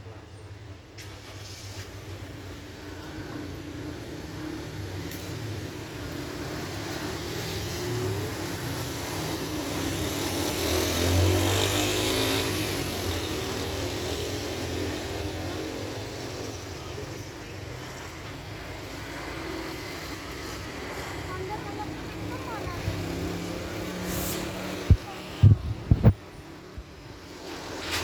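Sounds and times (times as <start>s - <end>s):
motor engine passing by: 3.1s - 26.2s.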